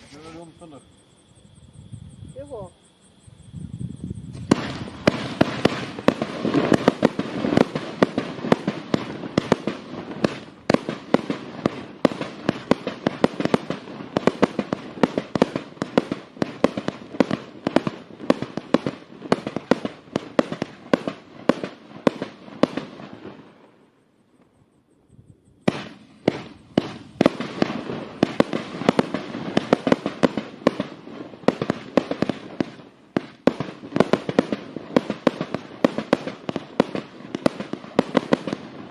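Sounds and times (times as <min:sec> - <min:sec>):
firework bangs and cracks: 0:04.2 - 0:23.8, 0:25.6 - 0:38.9.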